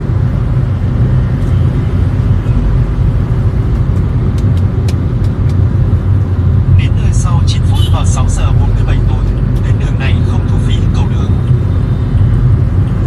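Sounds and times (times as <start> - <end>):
car rumbling in motion: 0.0 - 13.0.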